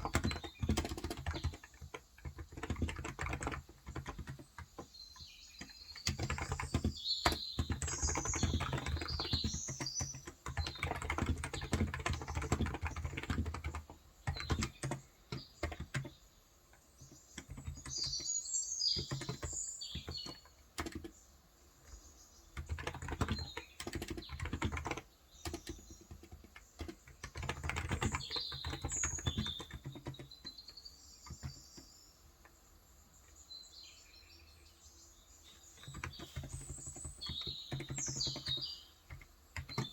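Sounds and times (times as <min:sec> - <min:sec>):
keyboard typing: 0:00.0 - 0:16.2, 0:17.0 - 0:18.3, 0:18.9 - 0:21.2, 0:22.6 - 0:31.9, 0:35.7 - 0:39.9
small birds chirping: 0:00.0 - 0:39.9.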